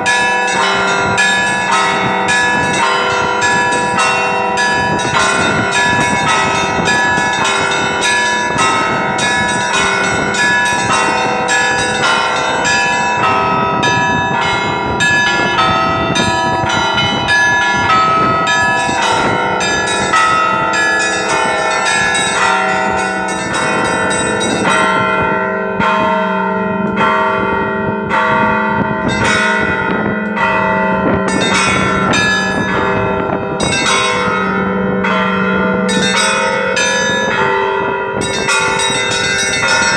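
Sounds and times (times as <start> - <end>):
church bells ringing: 0.0 - 39.9
steady low bell tone: 0.0 - 39.9.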